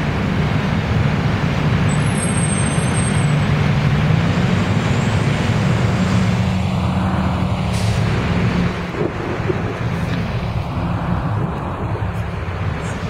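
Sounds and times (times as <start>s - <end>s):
bus engine driving past: 0.0s - 13.0s
passing car: 0.0s - 13.0s
street traffic noise: 0.0s - 13.0s.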